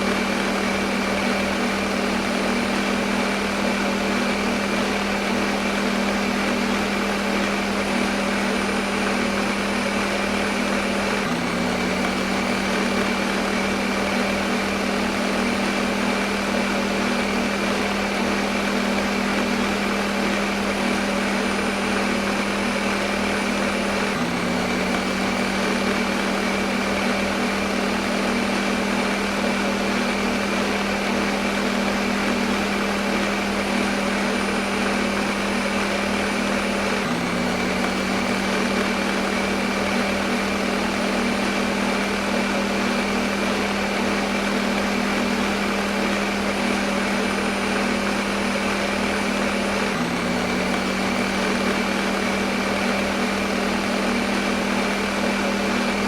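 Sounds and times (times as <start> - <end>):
electric blender running: 0.0 - 56.0.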